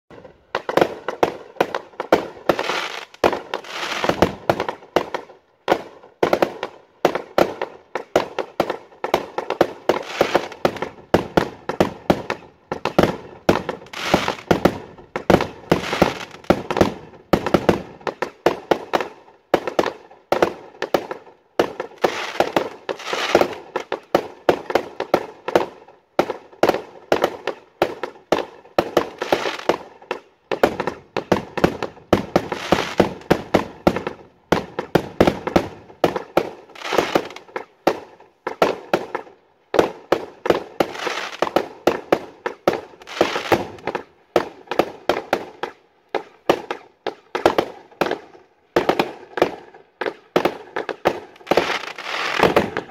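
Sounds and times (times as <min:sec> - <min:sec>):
fireworks bursting with crackle: 0:00.1 - 0:52.9.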